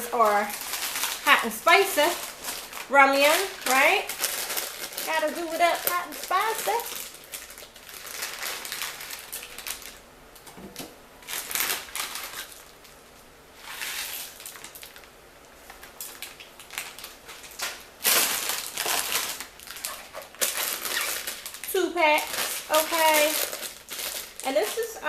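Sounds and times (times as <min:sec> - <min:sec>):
plastic packets crinkling: 0:00.0 - 0:10.5, 0:11.2 - 0:13.0, 0:13.6 - 0:25.0.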